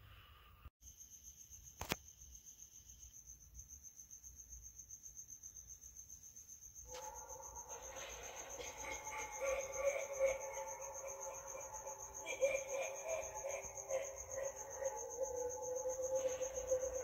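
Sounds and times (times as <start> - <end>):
crickets chirping: 0.3 - 17.0.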